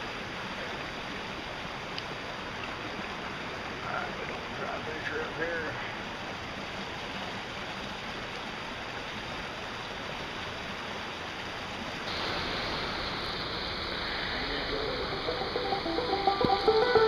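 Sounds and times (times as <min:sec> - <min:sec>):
river water rushing over dam: 0:00.0 - 0:17.0.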